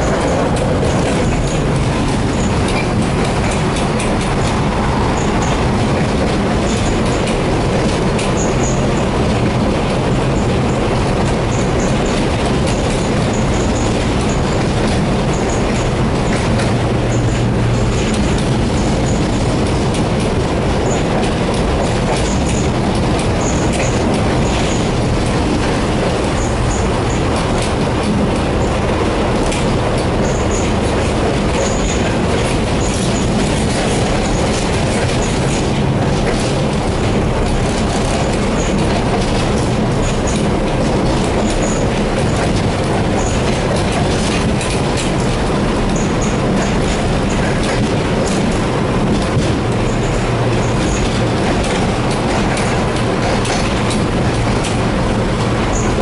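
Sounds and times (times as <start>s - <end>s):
tram wheels rumbling on track: 0.0s - 56.0s
wheels clicking over rail joints: 0.0s - 56.0s.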